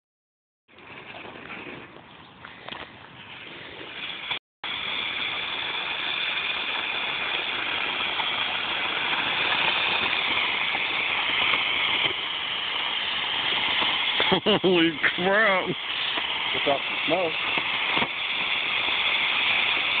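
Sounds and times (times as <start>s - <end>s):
smoke bomb hissing: 3.2s - 20.0s.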